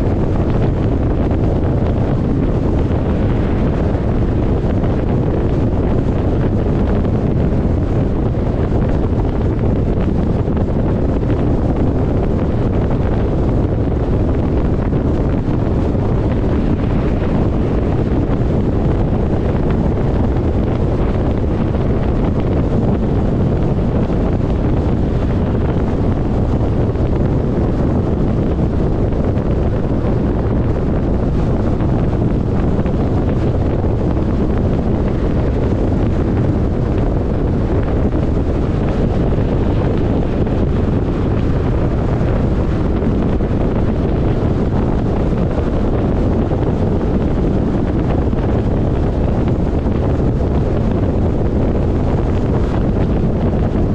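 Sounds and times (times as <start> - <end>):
car driving at highway speed: 0.0 - 53.9.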